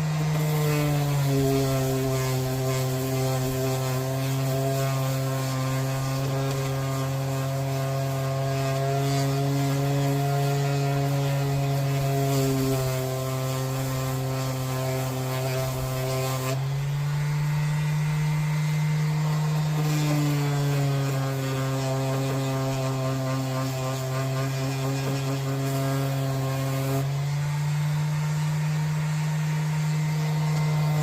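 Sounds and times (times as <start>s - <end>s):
motor humming: 0.0s - 31.0s.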